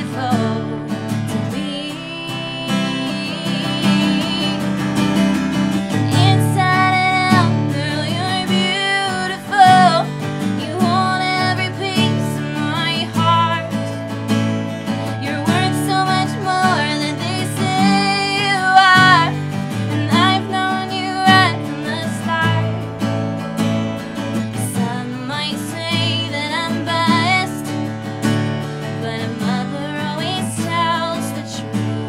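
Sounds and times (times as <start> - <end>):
woman singing: 0.0 - 23.2, 24.2 - 32.0
acoustic guitar strumming: 0.0 - 32.0.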